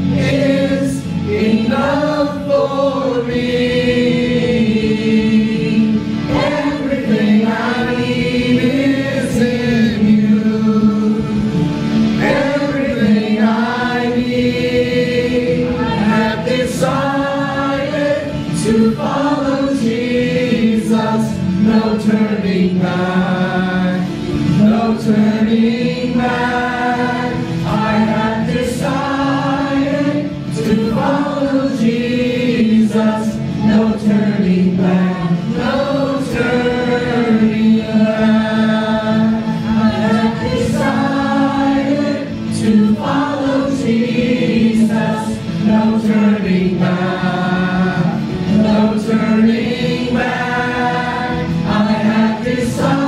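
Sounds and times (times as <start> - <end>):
group singing a hymn: 0.0 - 53.0.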